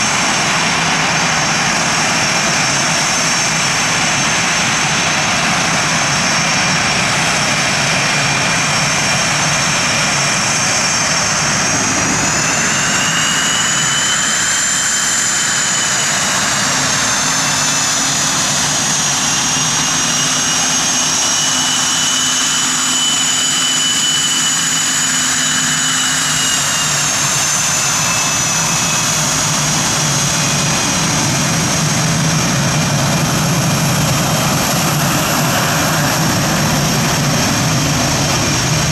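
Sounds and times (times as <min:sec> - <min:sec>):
aircraft turbine engines whining: 0:00.0 - 0:38.9.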